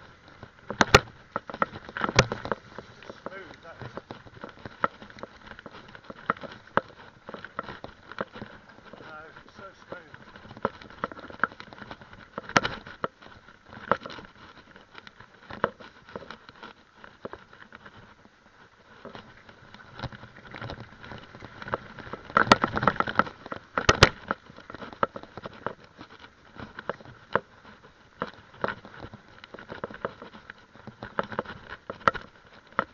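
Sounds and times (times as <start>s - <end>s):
mountain bike rattling over bumps: 0.0s - 32.9s.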